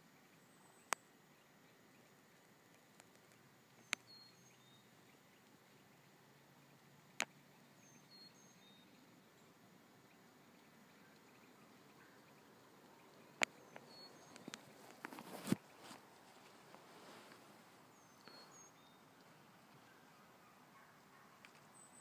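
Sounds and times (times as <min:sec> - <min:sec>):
distant small bird chirping: 0:00.0 - 0:22.0.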